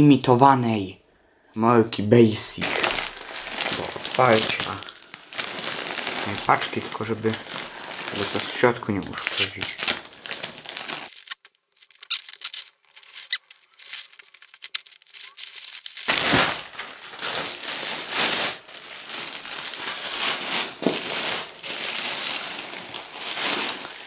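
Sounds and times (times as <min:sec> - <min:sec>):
plastic packaging crinkling: 0:02.5 - 0:24.0.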